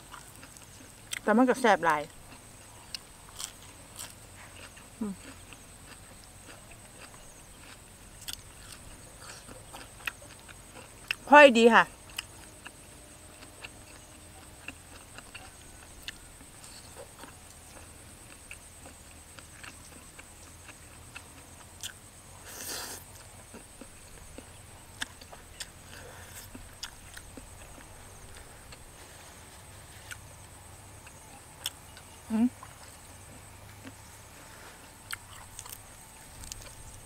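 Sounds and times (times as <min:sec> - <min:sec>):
soft chewing: 0:00.0 - 0:37.0.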